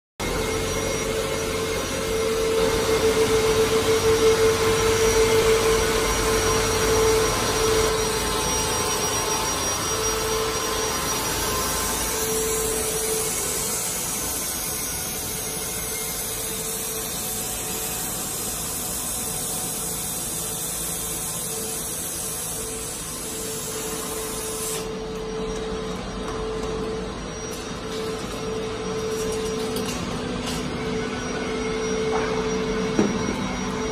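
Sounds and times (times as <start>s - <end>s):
laser cutter rushing noise: 0.2s - 33.9s
machine hum: 0.2s - 33.9s.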